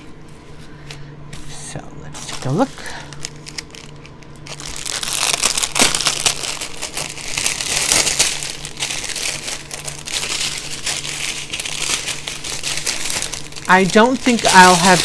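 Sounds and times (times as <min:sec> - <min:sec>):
plastic packaging crinkling: 0:02.1 - 0:15.0.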